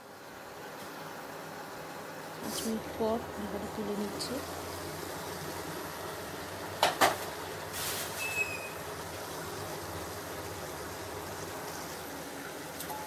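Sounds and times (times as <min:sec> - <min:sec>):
pan cooking hum and hiss: 0:00.0 - 0:13.0.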